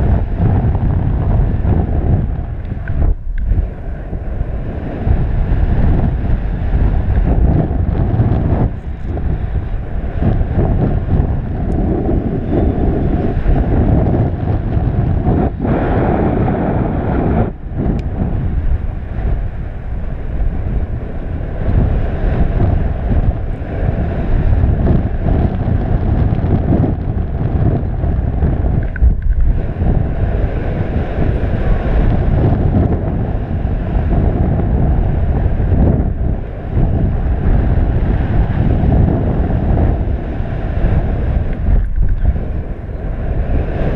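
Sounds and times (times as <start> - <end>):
wind noise on microphone: 0.0 - 43.9.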